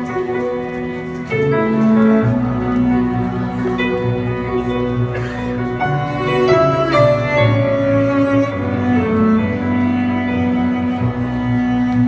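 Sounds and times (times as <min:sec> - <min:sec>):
slow instrumental music over loudspeakers: 0:00.0 - 0:12.0.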